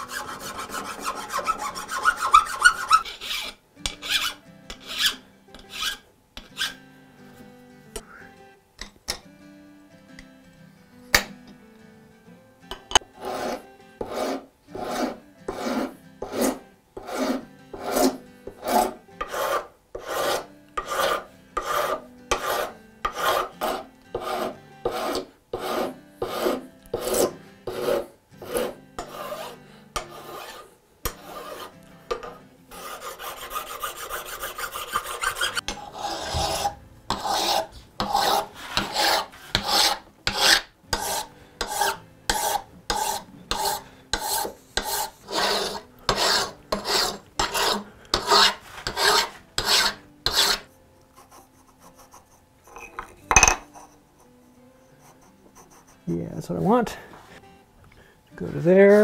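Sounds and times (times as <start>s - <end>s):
hand file scraping wood: 0.0s - 6.8s, 13.2s - 53.0s, 53.7s - 57.1s.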